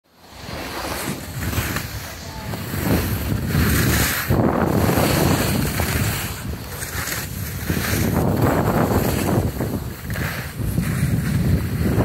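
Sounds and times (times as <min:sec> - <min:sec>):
wind rushing over microphone: 0:00.1 - 0:12.0
skis hissing on snow: 0:00.2 - 0:12.0.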